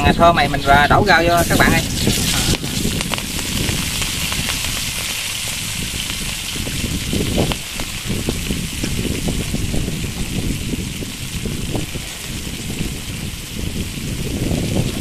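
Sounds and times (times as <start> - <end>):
greens sizzling in hot oil: 1.1 - 15.0.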